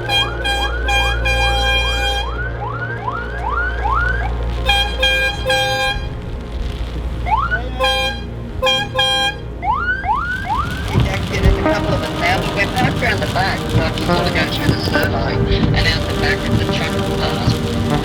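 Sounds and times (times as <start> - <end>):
vehicle horns honking: 0.0 - 6.4, 7.3 - 18.0
engine and road rumble: 0.0 - 18.0
siren-style horn whooping: 0.0 - 18.0.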